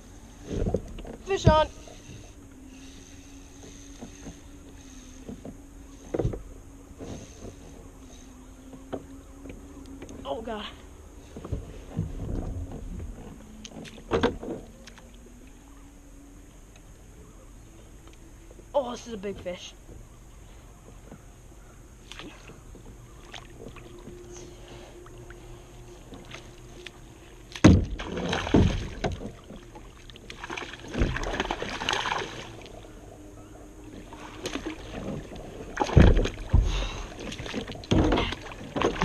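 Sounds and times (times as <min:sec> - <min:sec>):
water splashing and sloshing: 0:00.0 - 0:39.0.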